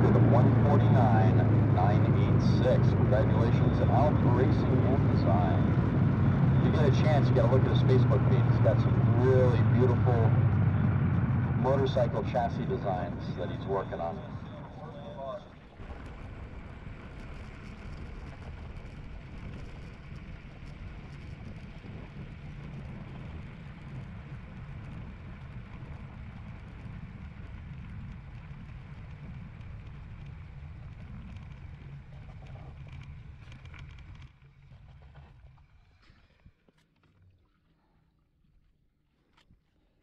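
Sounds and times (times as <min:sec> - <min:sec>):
wind buffeting microphone: 0:00.0 - 0:34.4
motorcycle low rumble: 0:00.0 - 0:36.4.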